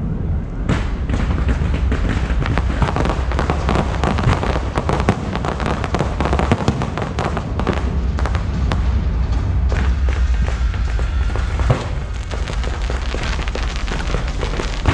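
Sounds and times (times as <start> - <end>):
low rumble: 0.0 - 14.9
fireworks bangs and crackles: 0.6 - 14.9.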